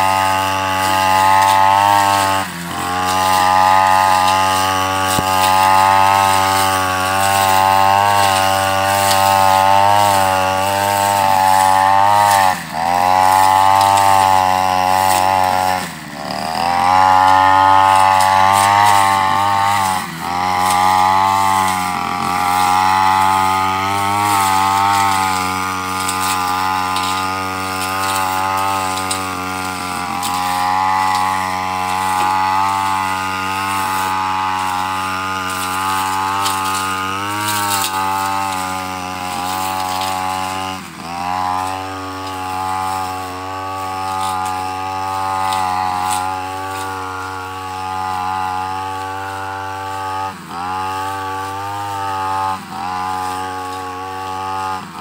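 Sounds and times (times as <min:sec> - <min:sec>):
brush cutter engine high revs: 0:00.0 - 0:55.0.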